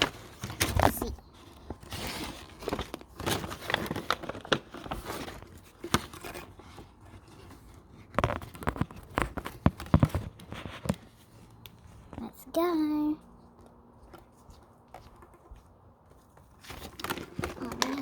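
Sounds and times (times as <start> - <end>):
bag rustling and crinkling: 0.0 - 12.1, 13.9 - 18.0.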